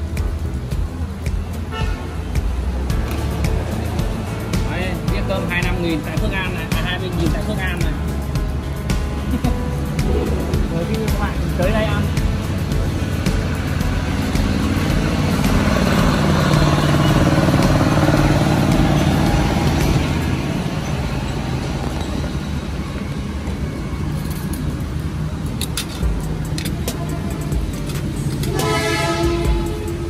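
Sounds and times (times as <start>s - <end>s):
traffic on a wet road: 0.0s - 30.0s
vehicle engine: 0.0s - 30.0s.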